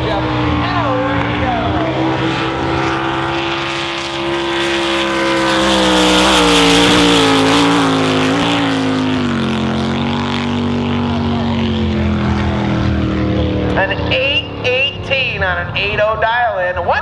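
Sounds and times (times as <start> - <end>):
boat engine at full throttle: 0.0 - 17.0.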